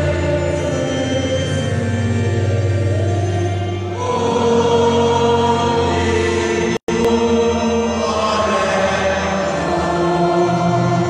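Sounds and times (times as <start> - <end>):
congregation singing: 0.0 - 11.0.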